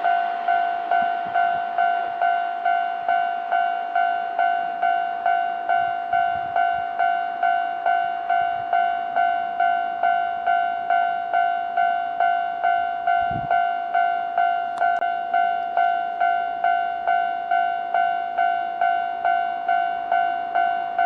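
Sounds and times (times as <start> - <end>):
level crossing alarm bell: 0.0 - 21.0.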